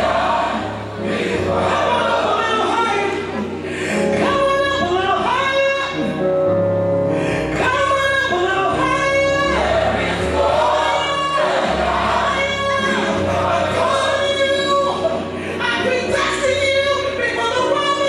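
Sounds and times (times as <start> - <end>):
choir singing gospel: 0.0 - 5.6, 7.5 - 18.0
bass line: 0.0 - 18.0.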